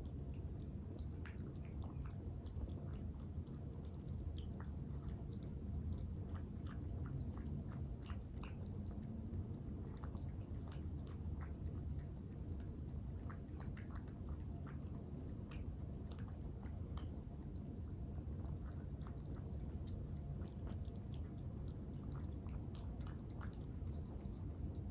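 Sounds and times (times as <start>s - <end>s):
cats chewing food: 0.0s - 24.9s
low steady hum: 0.0s - 24.9s.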